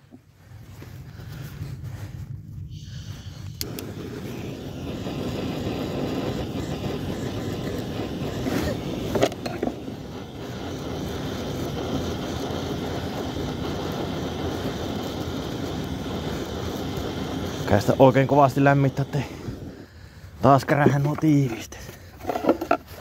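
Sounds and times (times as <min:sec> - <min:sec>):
gas torch burning: 0:02.5 - 0:23.0.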